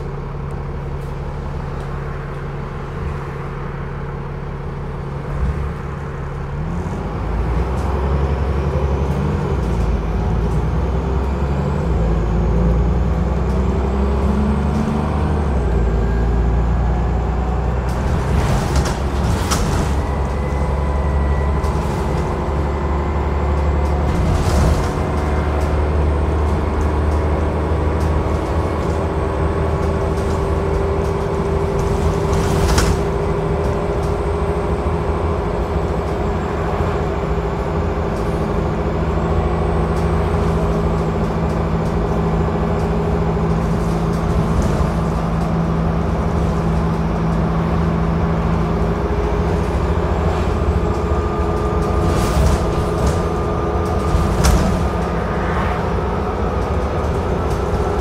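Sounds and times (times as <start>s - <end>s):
bus engine drone: 0.0s - 58.0s
whining drivetrain tones: 0.0s - 58.0s.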